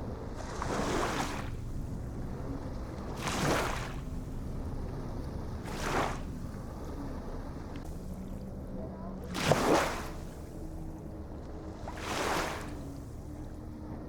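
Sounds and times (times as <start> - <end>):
waves breaking: 0.0 - 8.4, 9.2 - 14.0
low rumble of the sea: 0.0 - 14.0.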